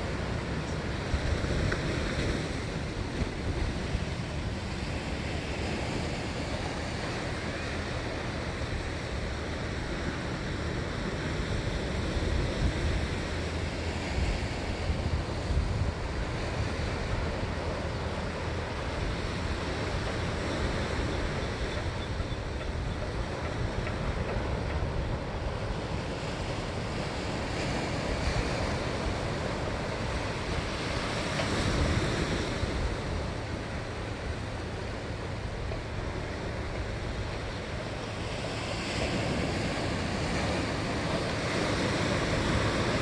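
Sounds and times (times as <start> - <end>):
ocean surf breaking: 0.0 - 43.0.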